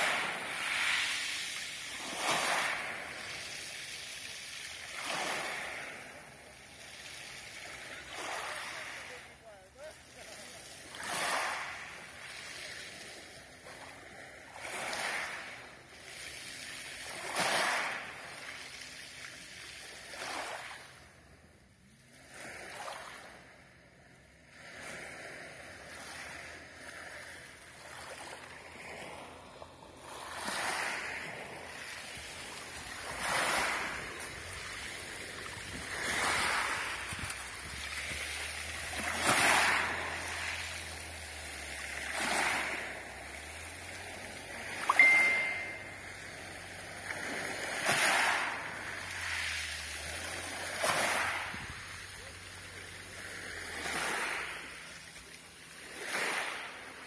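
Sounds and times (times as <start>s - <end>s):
waves lapping on pebble beach: 0.0s - 57.0s.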